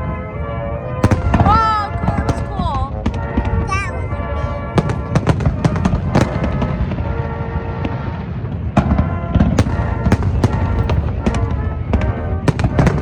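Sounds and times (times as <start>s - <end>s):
fireworks bangs and crackles: 0.0s - 13.0s
fireworks booming: 1.0s - 13.0s.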